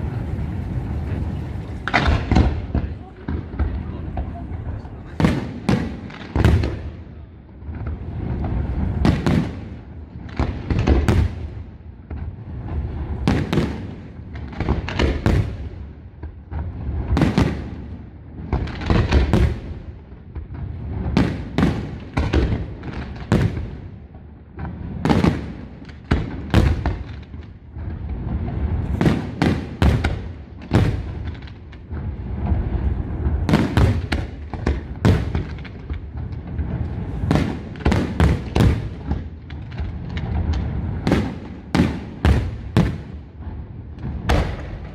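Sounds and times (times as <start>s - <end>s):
fireworks bangs and booms: 0.0s - 44.9s
fireworks crackling: 0.0s - 44.9s.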